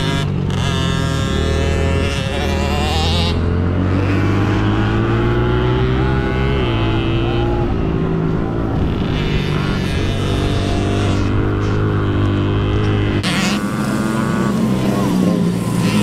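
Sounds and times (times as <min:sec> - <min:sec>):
motorbike engine revving: 0:00.0 - 0:16.0.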